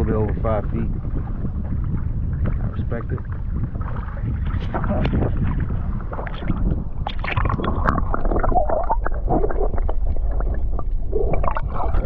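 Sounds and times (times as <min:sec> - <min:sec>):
water splashing around kayak: 0:00.0 - 0:12.0
wind rumble on microphone: 0:00.0 - 0:12.0.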